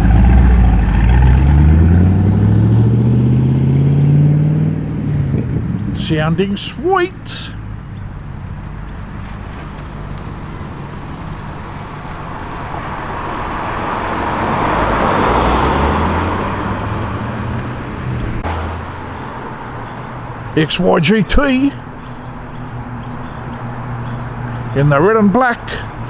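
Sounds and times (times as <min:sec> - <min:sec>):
car engine driving slowly: 0:00.0 - 0:26.0
tyre and road noise: 0:00.0 - 0:26.0.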